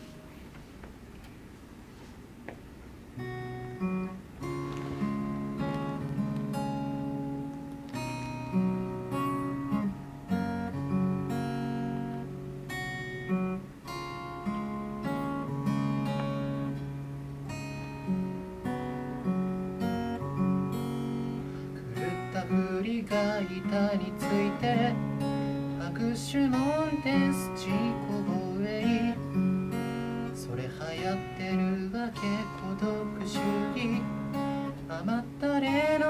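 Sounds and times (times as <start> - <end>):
acoustic guitar strumming chords: 0.0 - 0.7, 3.0 - 36.0.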